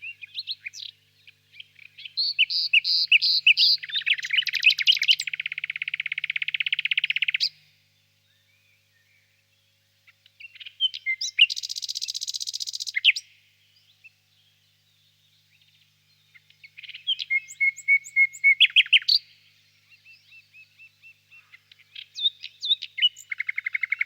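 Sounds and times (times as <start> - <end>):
nightingale singing: 0.0 - 24.0.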